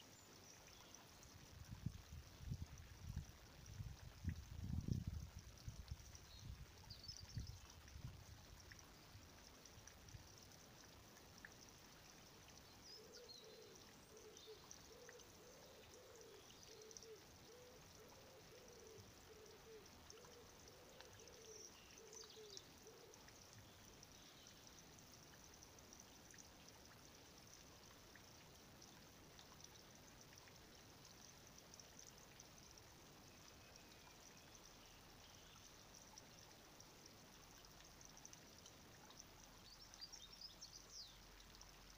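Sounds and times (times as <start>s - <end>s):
garden background hiss: 0.0s - 41.9s.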